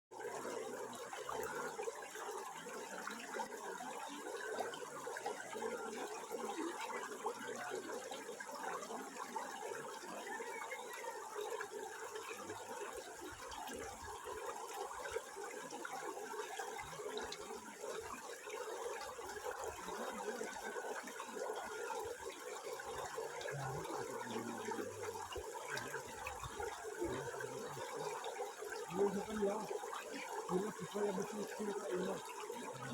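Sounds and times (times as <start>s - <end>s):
water flowing and splashing: 0.1s - 32.9s.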